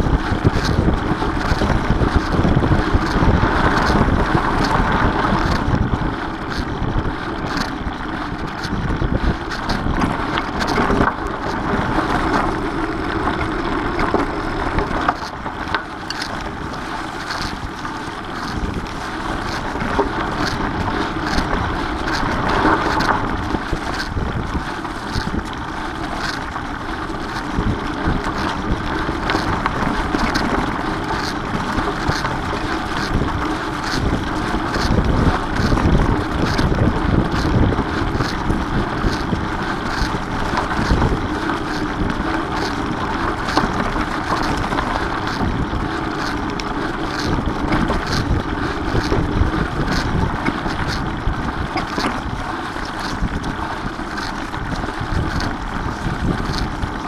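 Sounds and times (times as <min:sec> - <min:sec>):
bike clicks and rattles: 0:00.0 - 0:57.0
bike tyres rolling on dirt: 0:00.0 - 0:57.0
wind buffeting microphone: 0:00.0 - 0:57.0.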